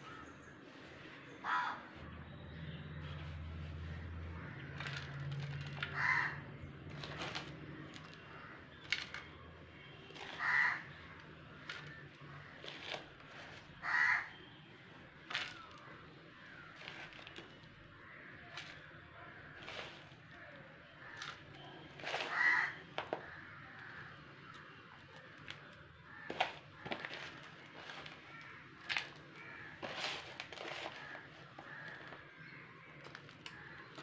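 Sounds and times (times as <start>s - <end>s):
bird cawing: 1.2s - 2.0s, 3.8s - 34.0s.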